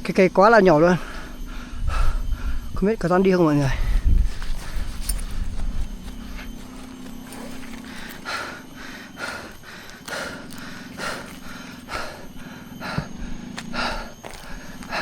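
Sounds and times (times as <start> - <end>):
low steady hum: 0.0 - 15.0
person breathing hard: 1.0 - 2.8, 3.6 - 15.0.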